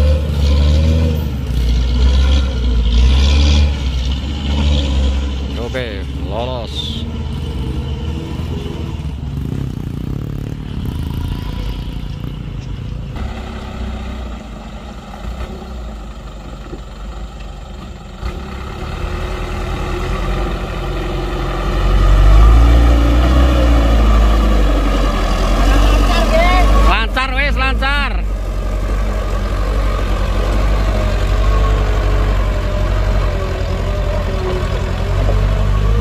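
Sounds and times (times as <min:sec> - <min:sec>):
diesel truck engine climbing: 0:00.0 - 0:36.0.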